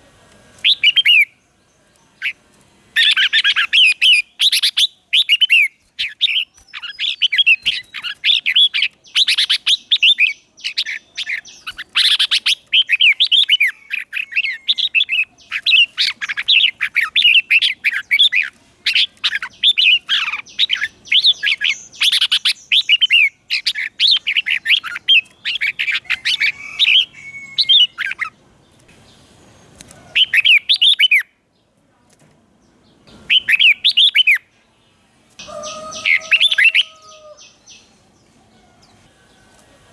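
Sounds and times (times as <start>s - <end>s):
bulbul song: 0.0s - 31.4s, 33.1s - 34.5s, 35.4s - 39.0s.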